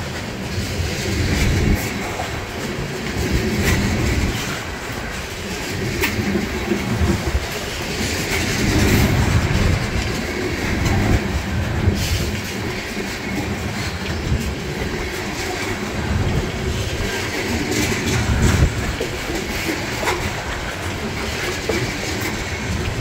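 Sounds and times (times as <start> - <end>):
train wheels rumbling on rail: 0.0 - 23.0
wheel clicks over rail joints: 0.0 - 23.0.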